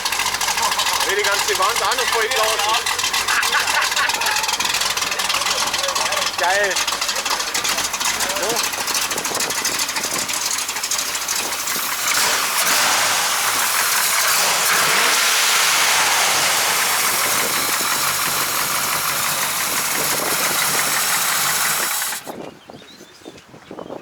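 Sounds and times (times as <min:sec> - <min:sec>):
loud car engine running: 0:00.0 - 0:22.4.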